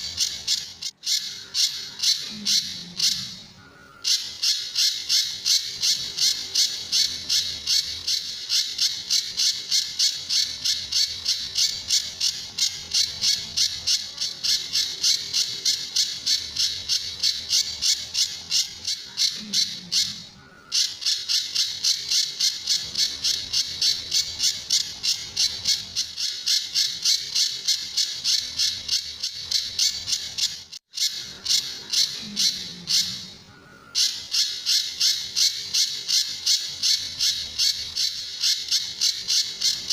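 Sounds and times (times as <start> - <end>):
bird calling sharp repeated notes: 0.0 - 39.9.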